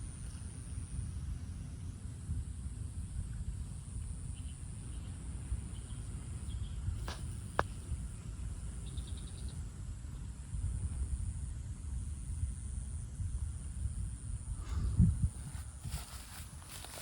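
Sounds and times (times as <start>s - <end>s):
insect chirps: 0.0s - 17.0s.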